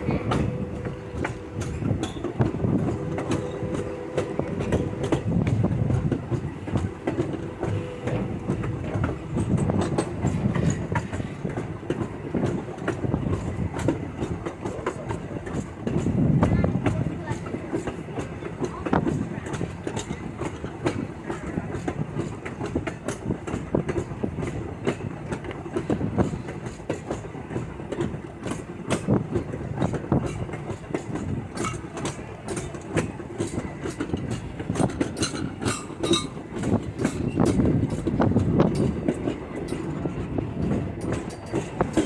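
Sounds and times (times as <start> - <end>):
train car rumbling: 0.0 - 42.0
wheels clicking over rail joints: 0.0 - 42.0.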